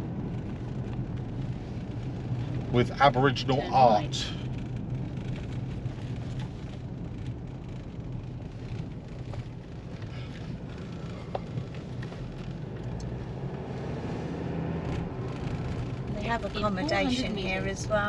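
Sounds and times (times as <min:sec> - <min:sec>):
car cabin road and engine noise: 0:00.0 - 0:18.0.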